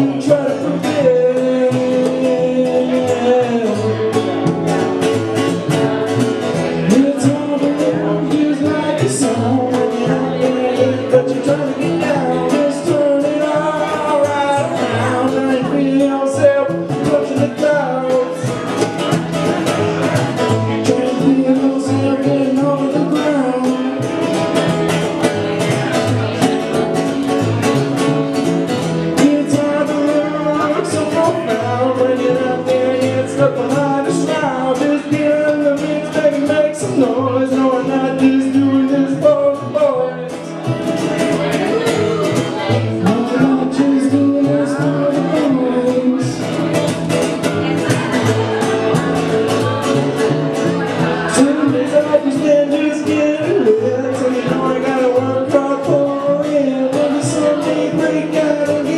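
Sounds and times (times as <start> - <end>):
man singing: 0.0 - 58.9
plucked double bass: 0.0 - 58.9
strummed acoustic guitar: 0.0 - 58.9.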